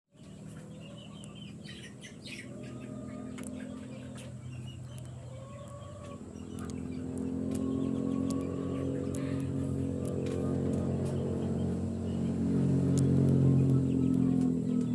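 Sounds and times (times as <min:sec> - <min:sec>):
low motor hum: 0:00.1 - 0:14.9
chickens clucking: 0:00.2 - 0:14.9.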